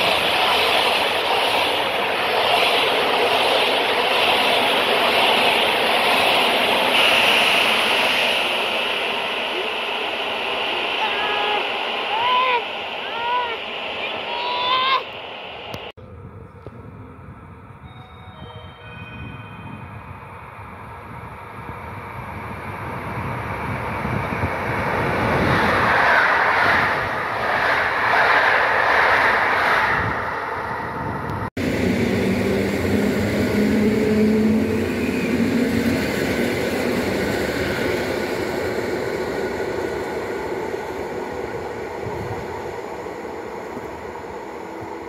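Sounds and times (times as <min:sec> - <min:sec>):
train wheel and rail noise: 0:00.0 - 0:45.0.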